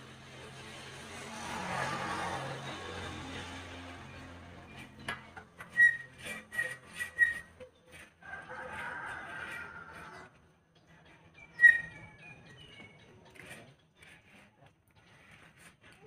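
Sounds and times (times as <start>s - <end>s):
tire iron scraping on rim: 0.0s - 16.0s.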